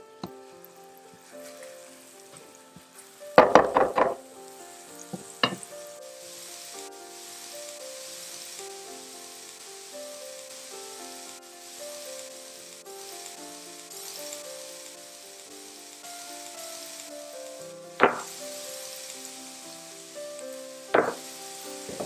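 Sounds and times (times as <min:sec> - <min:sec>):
slow background music: 0:00.0 - 0:22.0
garlic sizzling in oil: 0:00.2 - 0:22.0.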